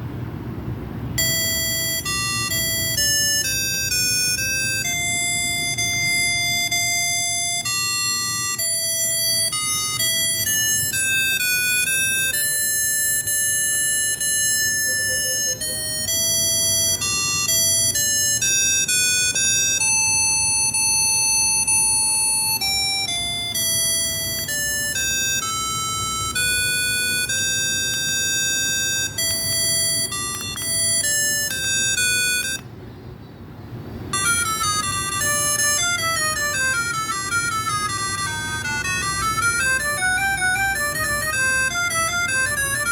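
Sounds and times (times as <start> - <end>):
electronic phone ringtone beeps: 1.2 - 32.7, 34.1 - 42.9.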